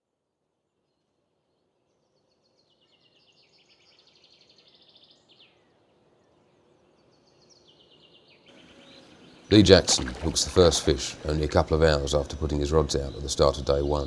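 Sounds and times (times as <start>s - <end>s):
outdoor background noise: 0.0s - 14.0s
birdsong trills: 0.8s - 14.0s.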